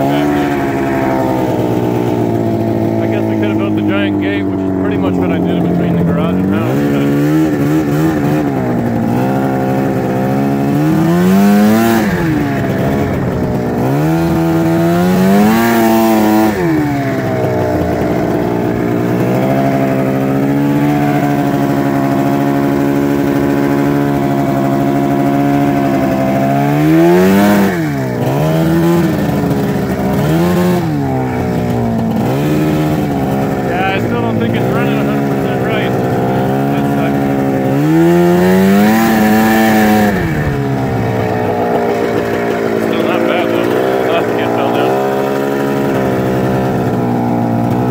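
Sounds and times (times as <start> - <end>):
snowmobile engine revving: 0.0 - 47.9.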